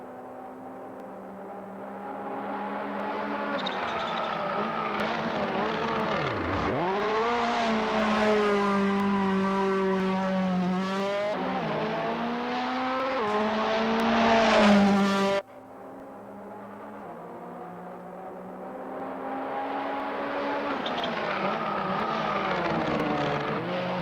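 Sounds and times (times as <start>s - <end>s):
race car engine revving: 1.3s - 15.4s, 16.2s - 24.0s.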